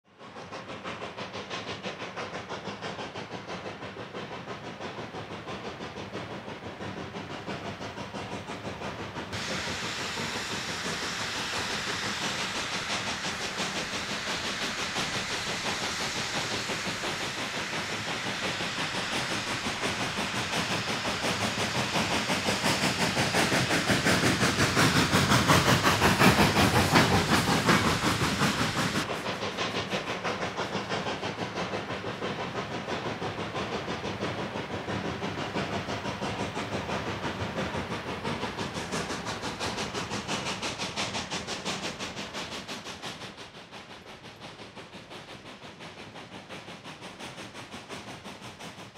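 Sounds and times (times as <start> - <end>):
steam hissing: 0.1 - 48.9
steam locomotive exhaust chuffs: 0.1 - 48.9.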